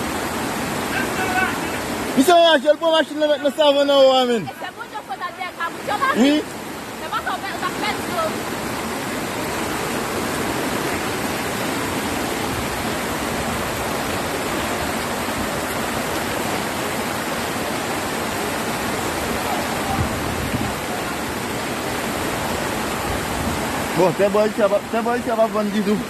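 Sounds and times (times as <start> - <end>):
rush of water: 0.0 - 26.0.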